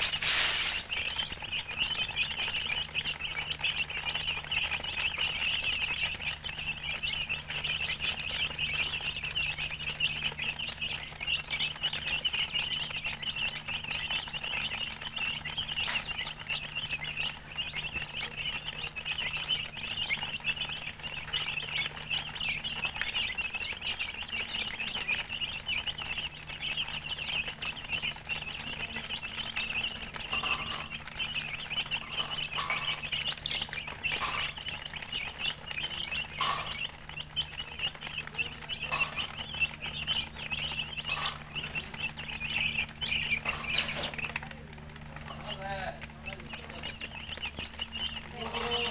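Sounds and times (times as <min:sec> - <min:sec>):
chicks peeping: 0:00.0 - 0:48.9
lower chicken calls: 0:00.0 - 0:48.9.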